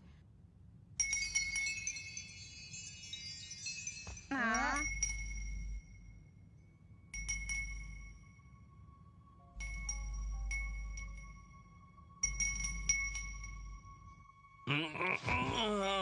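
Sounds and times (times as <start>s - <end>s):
wind chime tinkling: 1.0s - 8.9s, 9.5s - 14.6s.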